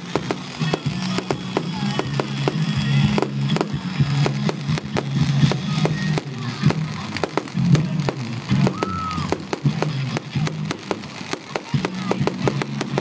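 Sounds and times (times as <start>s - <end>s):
fireworks cracking and popping: 0.0s - 13.0s
music playing: 0.0s - 13.0s.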